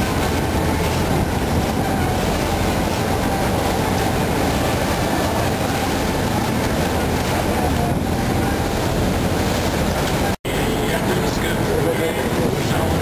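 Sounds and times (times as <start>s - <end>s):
boat engine running: 0.0s - 13.0s
water rushing along hull: 0.0s - 13.0s.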